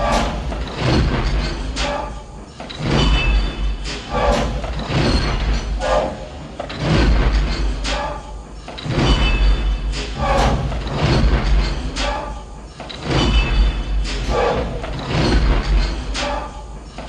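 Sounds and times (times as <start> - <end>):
sharp mechanical clanks: 0.0 - 17.0.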